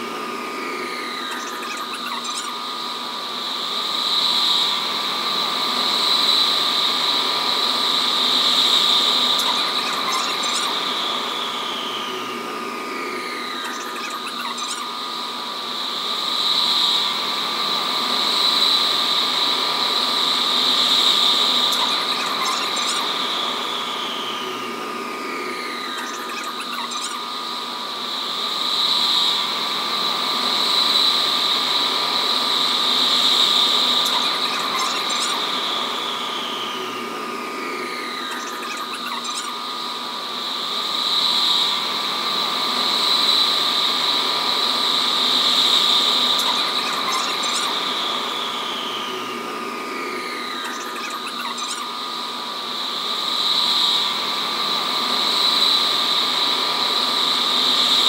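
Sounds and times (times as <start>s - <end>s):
train whining in tunnel: 0.0s - 58.0s.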